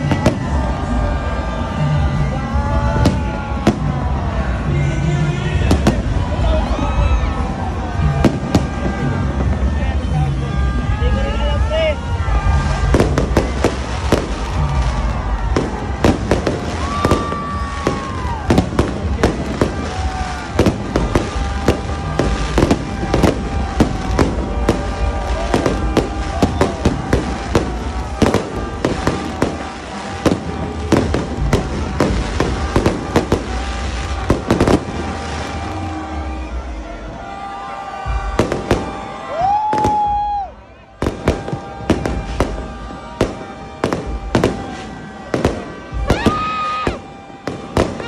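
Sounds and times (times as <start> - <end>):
falling firework whistle: 0.0 - 4.5, 12.1 - 48.0
fireworks bangs and crackles: 0.0 - 48.0.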